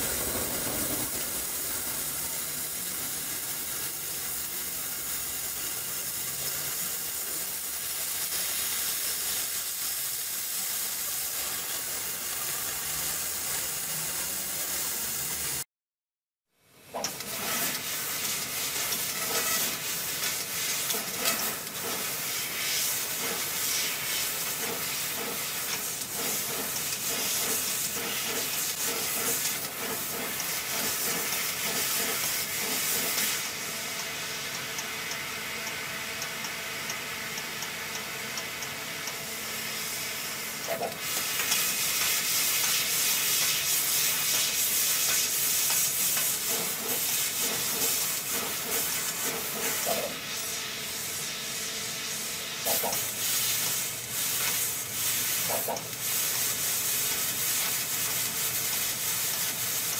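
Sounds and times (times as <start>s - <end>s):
laser cutting machine hissing: 0.0s - 15.6s, 17.0s - 59.9s.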